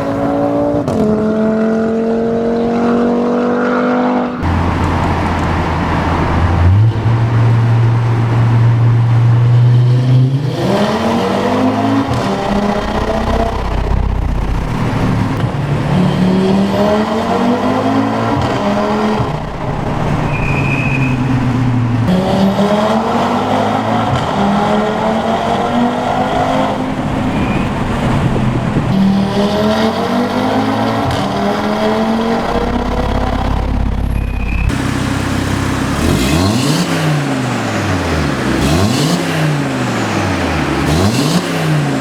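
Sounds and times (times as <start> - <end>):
car engine accelerating hard: 0.0 - 42.0.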